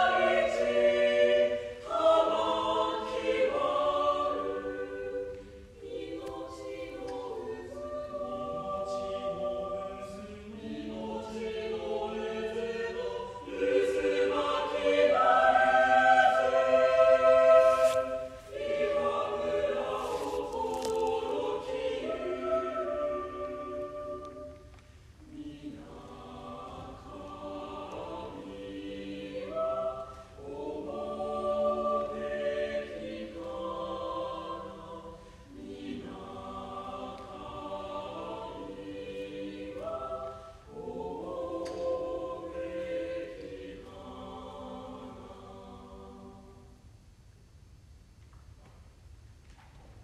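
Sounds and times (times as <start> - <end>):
choir singing held chords: 0.0 - 47.0.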